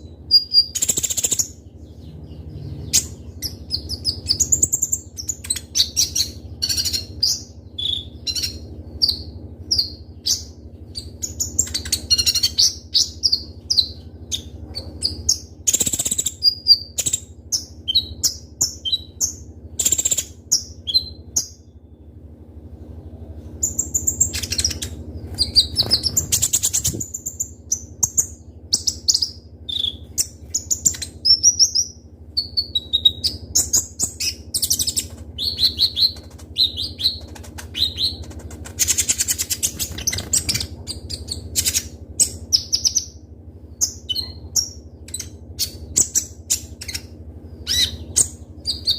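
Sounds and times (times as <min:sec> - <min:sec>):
bird chirping and trilling: 0:00.0 - 0:22.2, 0:22.8 - 0:48.9
low steady hum: 0:00.0 - 0:48.9.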